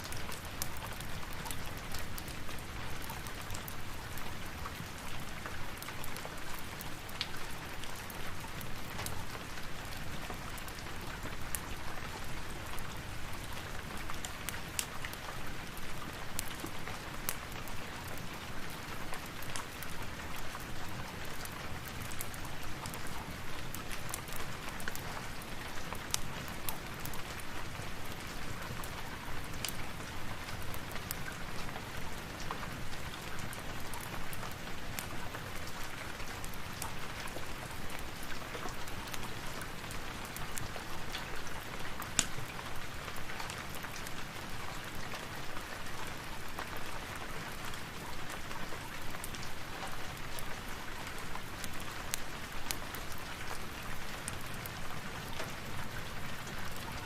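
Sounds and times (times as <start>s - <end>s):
rain falling: 0.0s - 57.0s
ticks of raindrops: 0.0s - 57.0s.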